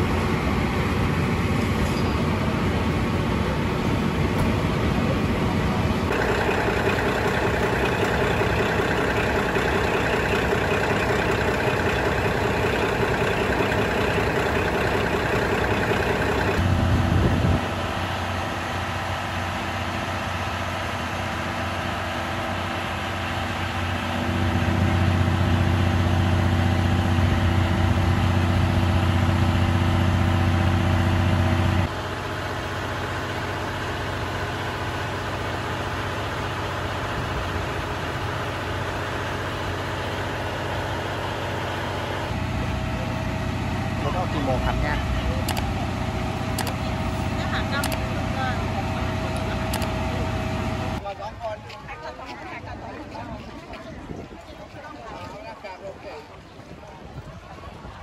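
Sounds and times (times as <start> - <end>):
diesel railcar engines running: 0.0 - 55.2.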